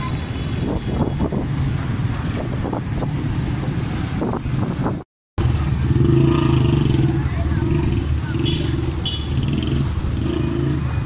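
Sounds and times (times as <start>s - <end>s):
motorcycle engines in traffic: 0.0s - 11.0s
motorcycle engine close by: 2.1s - 11.0s.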